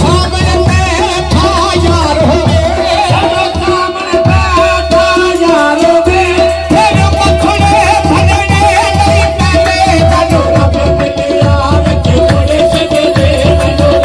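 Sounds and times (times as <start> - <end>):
person singing: 0.0 - 14.0
tabla beat: 0.0 - 14.0.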